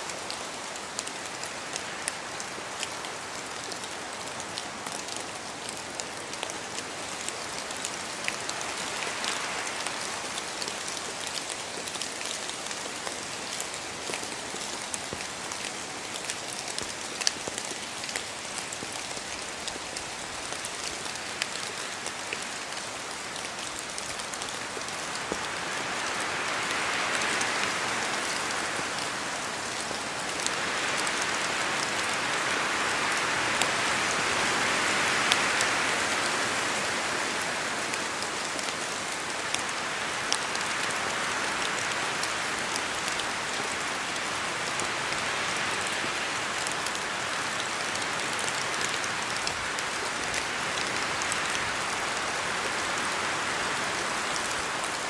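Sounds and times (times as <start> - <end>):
rain pattering in a forest: 0.0 - 55.0.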